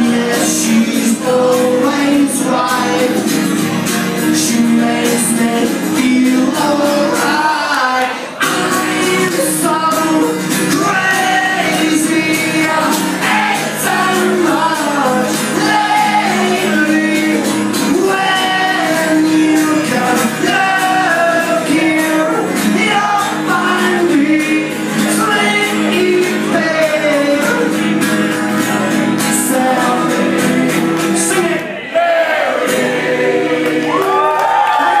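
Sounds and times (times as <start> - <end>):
strummed acoustic guitar: 0.0 - 31.8, 32.4 - 34.0
man singing with shouted energy: 0.0 - 35.0.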